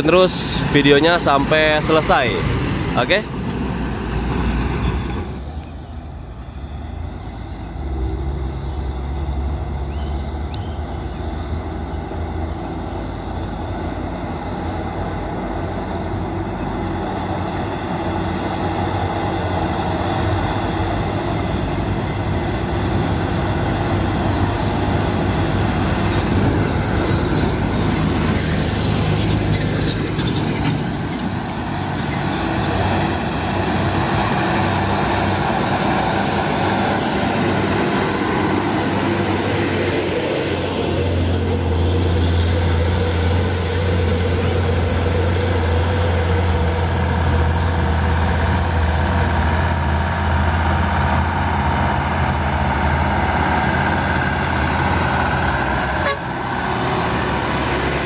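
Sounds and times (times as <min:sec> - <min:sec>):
truck diesel engine pulling uphill: 0:00.0 - 0:58.0.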